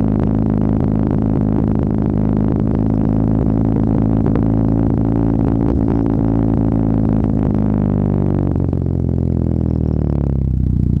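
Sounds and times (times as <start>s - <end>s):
loud car exhaust drone: 0.0s - 11.0s.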